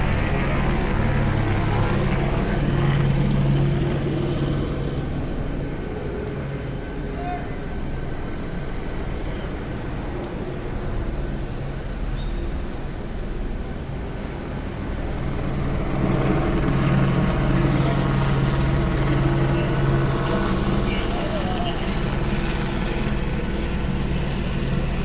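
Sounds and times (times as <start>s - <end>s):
steady low hum: 0.0s - 12.0s, 12.7s - 25.0s
engine rumble: 0.0s - 25.0s.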